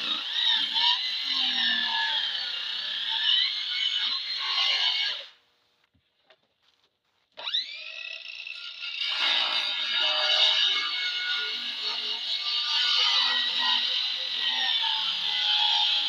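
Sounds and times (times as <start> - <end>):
chainsaw cutting log: 0.0 - 5.4, 7.4 - 16.0.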